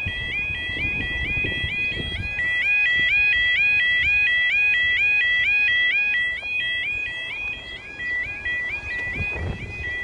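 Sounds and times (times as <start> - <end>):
level crossing warbling alarm: 0.0 - 10.0.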